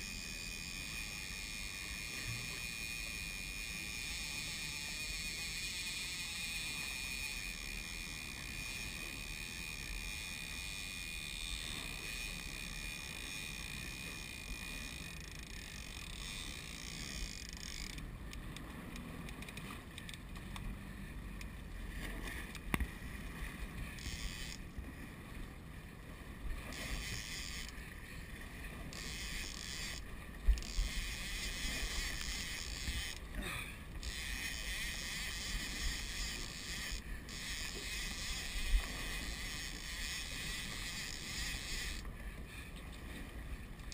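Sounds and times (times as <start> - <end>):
water noise: 0.0 - 43.9
wind: 0.0 - 43.9.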